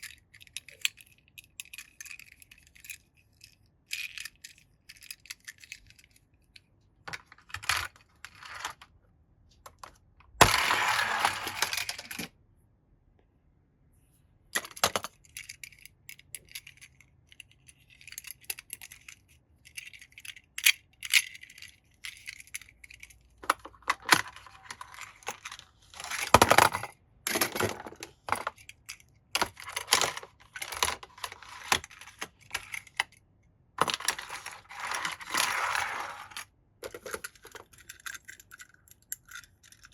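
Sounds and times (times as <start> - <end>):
toy cars clicking and clinking: 0.0 - 8.8, 10.4 - 12.3, 14.6 - 33.2, 33.8 - 39.9.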